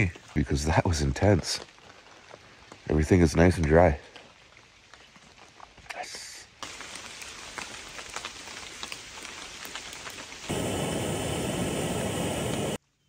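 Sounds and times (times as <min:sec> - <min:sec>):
raindrops pattering on leaves: 0:00.0 - 0:12.8.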